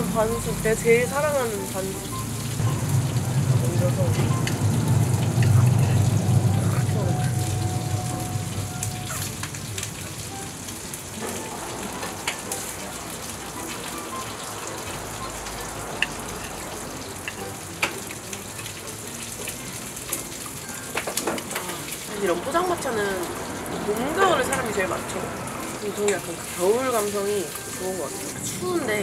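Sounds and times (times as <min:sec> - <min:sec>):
meat sizzling on a griddle: 0:00.0 - 0:29.0.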